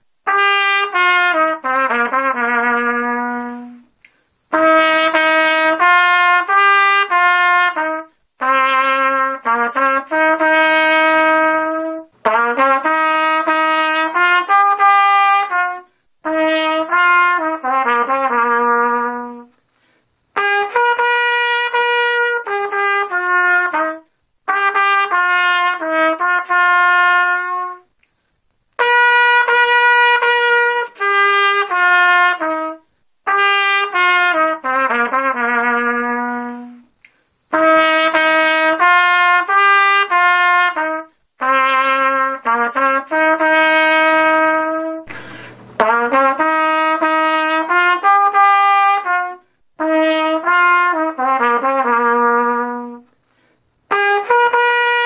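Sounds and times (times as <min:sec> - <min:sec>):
solo trumpet slow melody: 0:00.2 - 0:28.1, 0:28.7 - 0:55.0.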